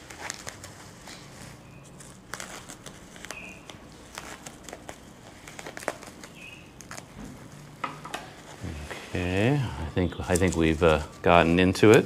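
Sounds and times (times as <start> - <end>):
crinkling plastic: 0.0 - 9.0, 10.0 - 12.0.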